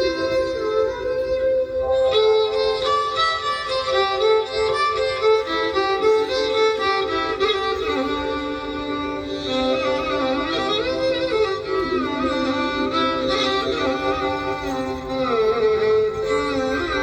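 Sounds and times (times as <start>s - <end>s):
sliding string melody: 0.0s - 17.0s.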